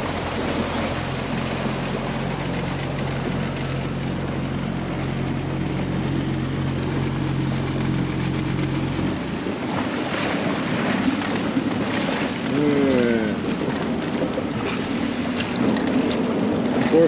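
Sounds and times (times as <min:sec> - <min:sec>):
outboard motor running: 0:00.0 - 0:17.0
water wash: 0:00.0 - 0:17.0
wind: 0:00.0 - 0:17.0.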